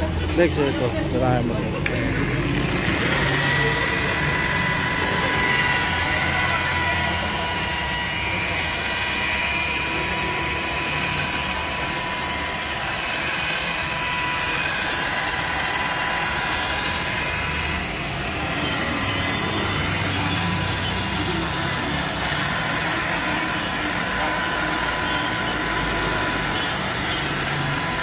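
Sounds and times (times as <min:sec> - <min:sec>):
electric polisher whining: 0:00.0 - 0:28.0.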